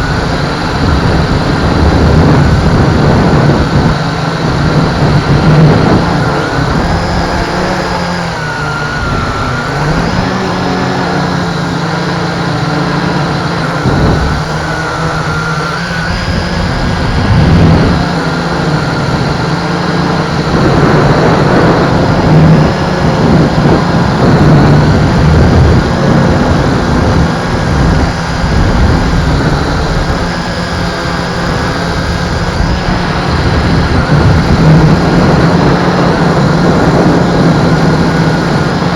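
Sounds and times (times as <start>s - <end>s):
quadcopter propellers whining: 0.0s - 38.9s
wind buffeting: 0.0s - 38.9s.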